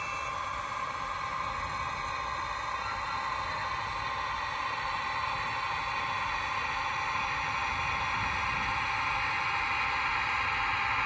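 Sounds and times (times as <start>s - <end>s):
model locomotive diesel engine sound: 0.0s - 11.0s.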